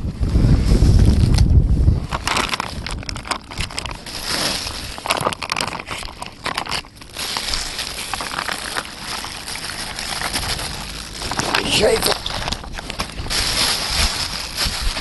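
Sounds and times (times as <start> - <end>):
plastic bag rustling and crinkling: 0.0 - 15.0.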